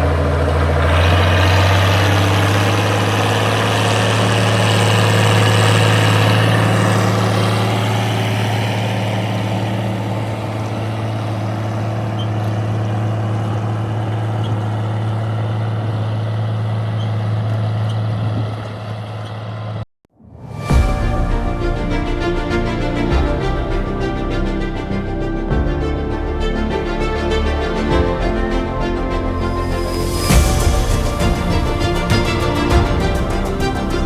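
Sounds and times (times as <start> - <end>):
diesel engine running under load: 0.0 - 19.9, 21.0 - 34.0.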